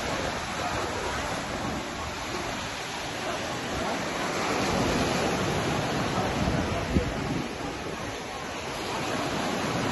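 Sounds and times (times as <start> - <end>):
waves breaking on pebbly beach: 0.0 - 9.9.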